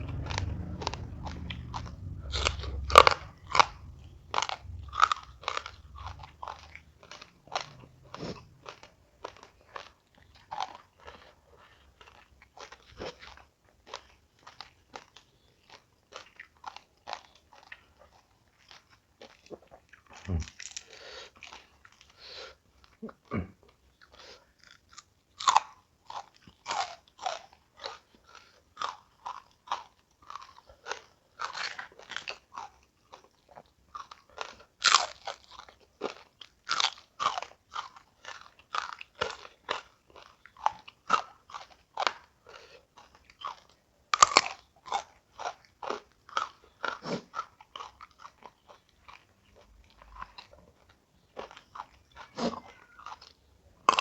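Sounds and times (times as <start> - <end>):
crunching and chewing crisp food: 0.0 - 54.0.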